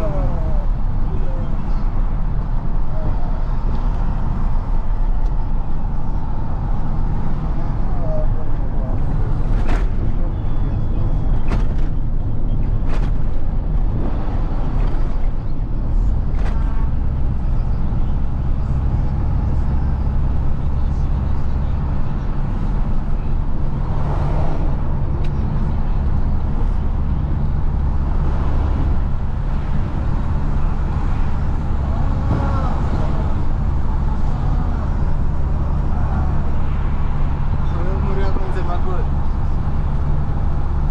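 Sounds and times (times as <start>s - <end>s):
diesel truck engine humming: 0.0s - 40.9s.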